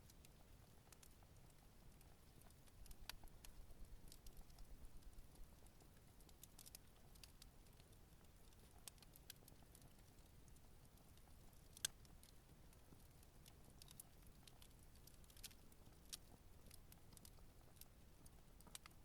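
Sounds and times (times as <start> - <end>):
campfire crackling: 0.1 - 19.0.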